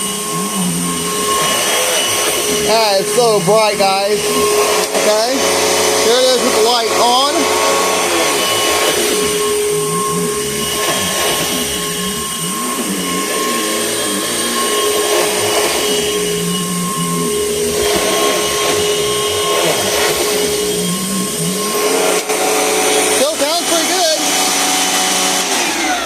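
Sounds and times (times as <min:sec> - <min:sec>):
low pulsing tone: 0:00.0 - 0:24.4
vacuum cleaner motor whine: 0:00.0 - 0:26.0.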